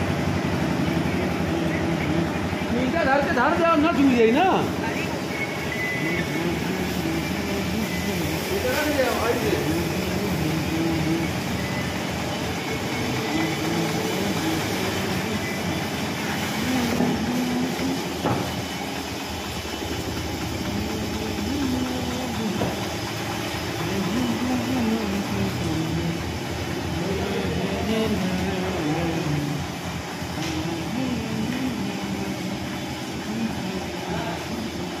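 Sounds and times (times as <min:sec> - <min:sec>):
machinery drone: 0:00.0 - 0:35.0.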